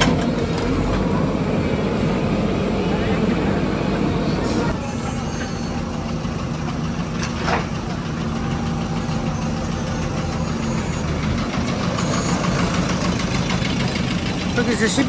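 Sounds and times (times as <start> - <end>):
machinery engine low hum: 0.0 - 15.0.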